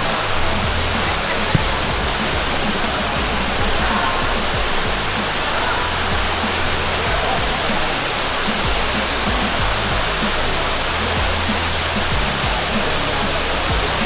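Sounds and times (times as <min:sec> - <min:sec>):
hip-hop backing track: 0:00.0 - 0:14.0
waterfall roaring: 0:00.0 - 0:14.0.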